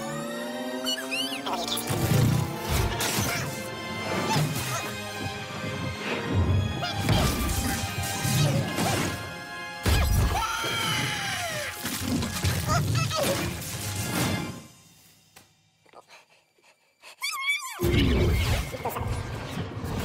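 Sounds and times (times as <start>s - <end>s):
dramatic film score: 0.0s - 20.0s.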